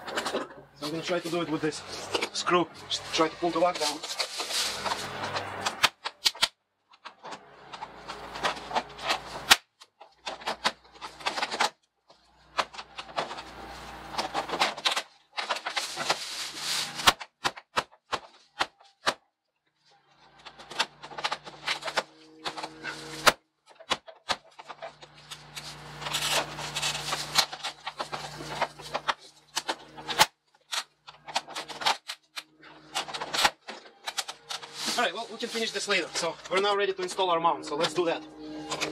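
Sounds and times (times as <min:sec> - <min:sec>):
vinyl siding panels clicking and rattling: 0:00.0 - 0:19.3, 0:20.1 - 0:36.9.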